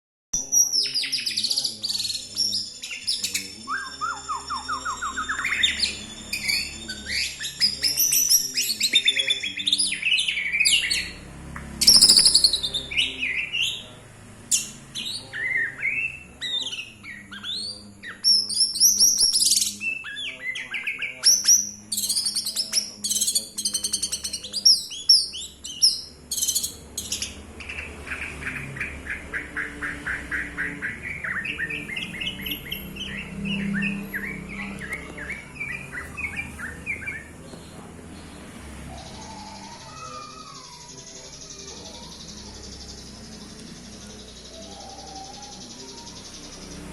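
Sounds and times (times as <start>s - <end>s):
songbird singing: 0.4s - 46.9s.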